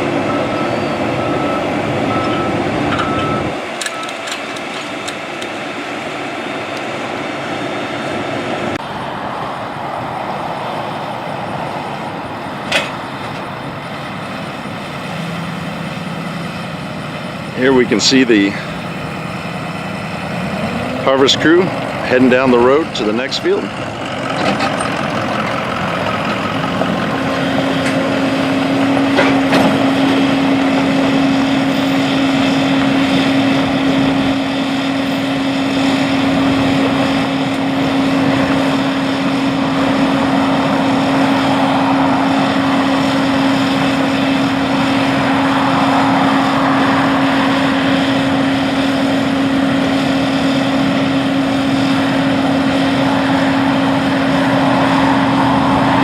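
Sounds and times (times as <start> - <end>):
farm machinery diesel engines humming: 0.0 - 56.0.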